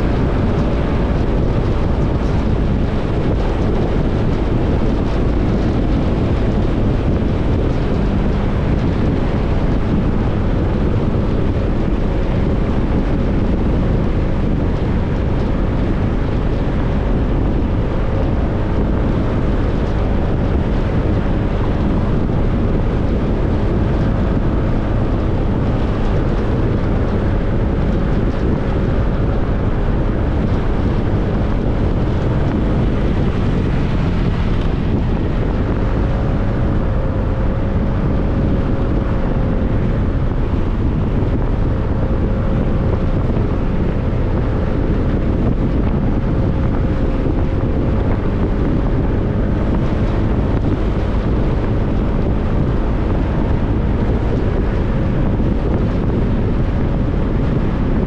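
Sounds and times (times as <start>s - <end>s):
motorcycle engine hum: 0.0s - 58.0s
wind rushing over microphone: 0.0s - 58.0s.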